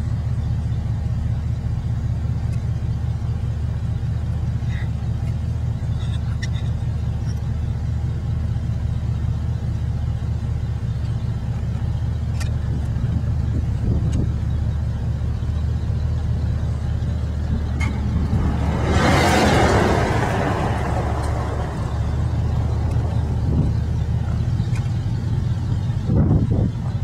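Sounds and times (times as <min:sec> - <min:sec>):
car engine drone: 0:00.0 - 0:27.0
road noise inside car: 0:00.0 - 0:27.0.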